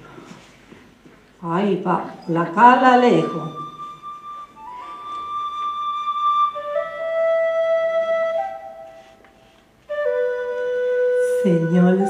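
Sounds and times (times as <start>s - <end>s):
flute playing slow melody: 2.2s - 12.0s.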